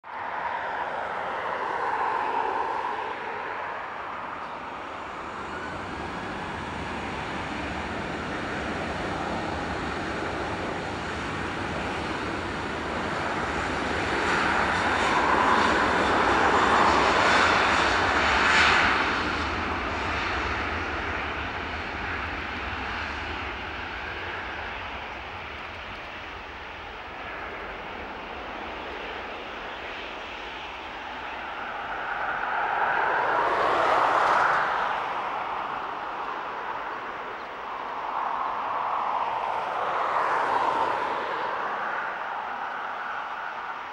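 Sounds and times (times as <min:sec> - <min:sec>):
jet engines at takeoff thrust: 0:00.0 - 0:43.9.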